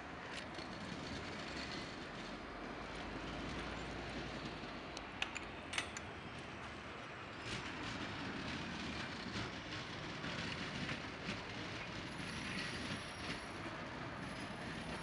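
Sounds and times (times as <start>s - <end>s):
tram rumble and hiss: 0.0s - 15.0s
wheels clicking on track: 0.0s - 15.0s.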